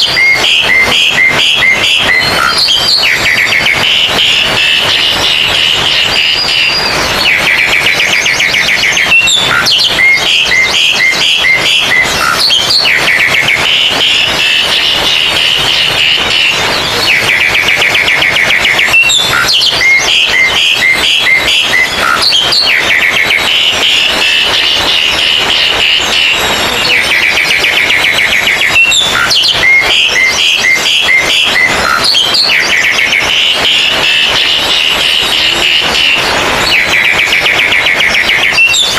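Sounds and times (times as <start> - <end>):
short repeated whistled notes: 0.0 - 38.9
songbirds singing with trills: 0.0 - 38.9.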